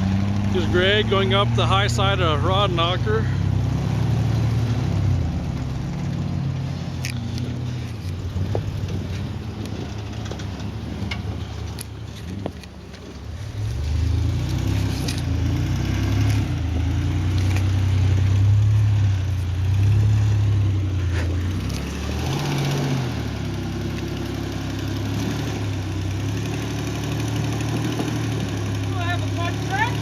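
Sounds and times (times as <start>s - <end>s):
off-road vehicle engine: 0.0s - 30.0s.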